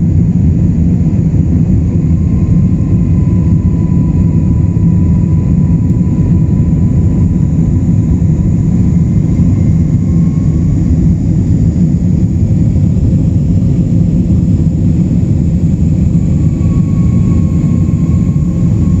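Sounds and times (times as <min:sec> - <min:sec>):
faint engine whine: 0:00.0 - 0:19.0
jet engines deep rumble: 0:00.0 - 0:19.0.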